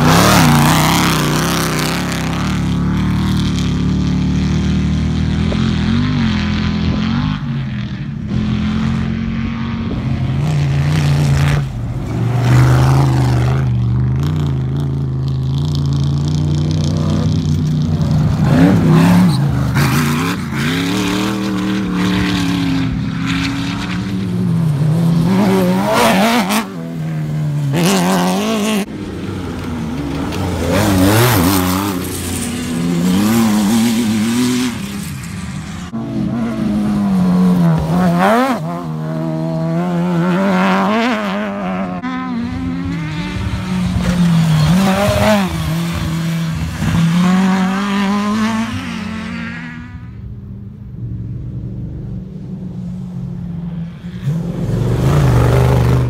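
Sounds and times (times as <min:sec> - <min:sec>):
buggy engines revving: 0:00.0 - 0:56.0.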